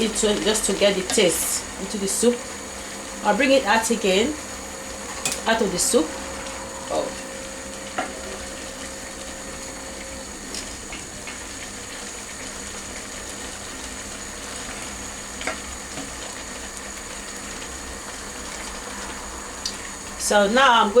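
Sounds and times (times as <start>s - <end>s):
soup bubbling: 0.0s - 21.0s.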